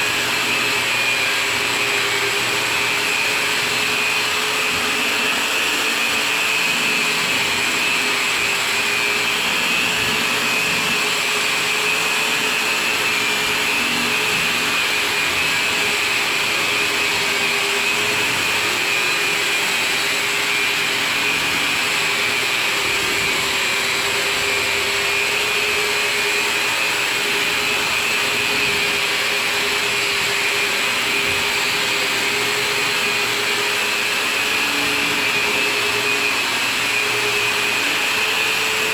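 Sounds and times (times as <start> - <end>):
electric drywall sander running: 0.0 - 38.9.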